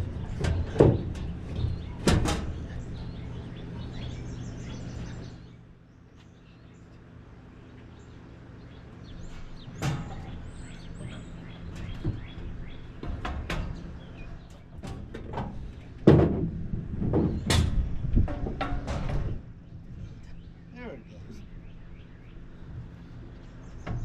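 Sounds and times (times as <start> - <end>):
birds chirping: 0.0 - 16.1, 17.0 - 24.0
steady low hum: 0.0 - 24.0.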